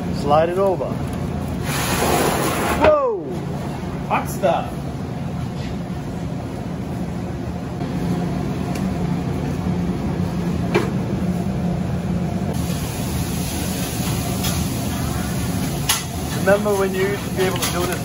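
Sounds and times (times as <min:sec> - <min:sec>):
kitchen machinery hum: 0:00.0 - 0:18.0.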